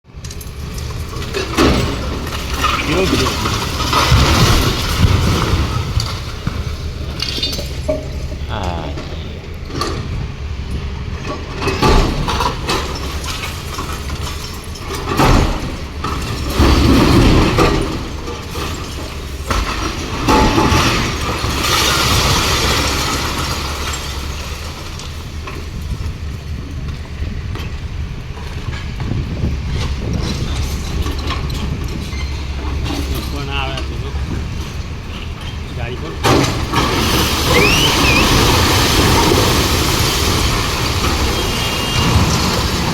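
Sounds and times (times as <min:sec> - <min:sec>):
diesel engine running: 0:00.1 - 0:42.9
concrete crashing: 0:00.8 - 0:09.3, 0:11.3 - 0:25.8, 0:28.7 - 0:42.9.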